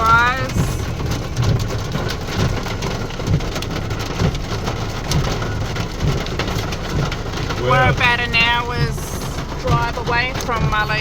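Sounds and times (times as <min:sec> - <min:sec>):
engine hum: 0:00.0 - 0:11.0
heavy rain on car roof: 0:00.0 - 0:11.0
road noise: 0:00.0 - 0:11.0.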